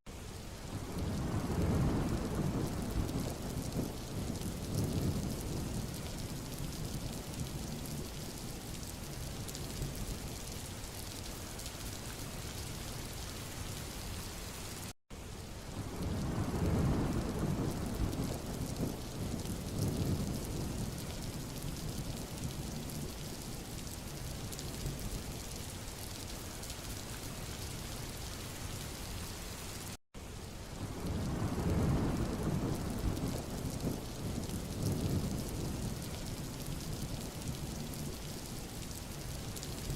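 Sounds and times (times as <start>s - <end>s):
rain falling on a road: 0.1s - 39.9s
wind through trees: 0.1s - 39.9s.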